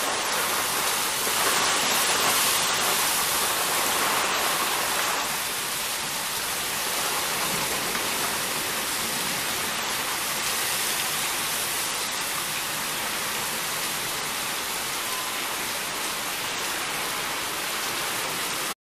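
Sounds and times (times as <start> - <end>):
heavy rain pouring: 0.0 - 18.8.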